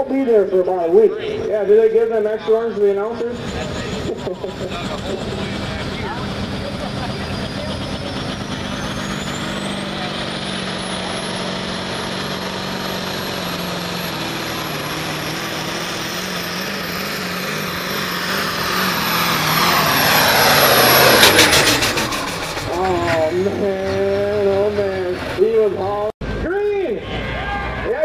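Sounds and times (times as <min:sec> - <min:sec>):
diesel engine under full load: 0:00.0 - 0:28.0.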